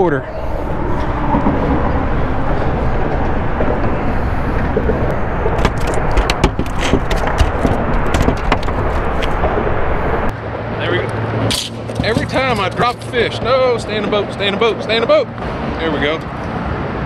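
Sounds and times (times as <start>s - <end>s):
loud rushing noise: 0.0s - 17.0s.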